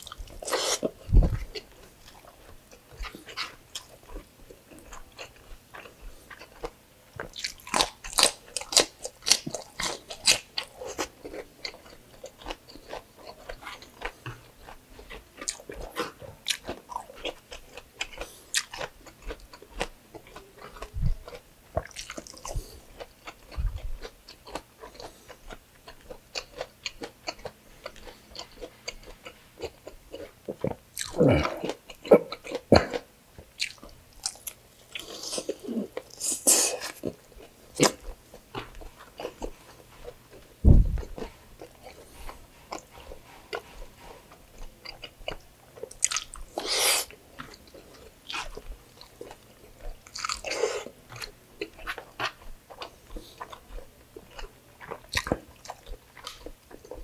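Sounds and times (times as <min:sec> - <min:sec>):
man chewing with mouth smacks: 0:00.0 - 0:57.0.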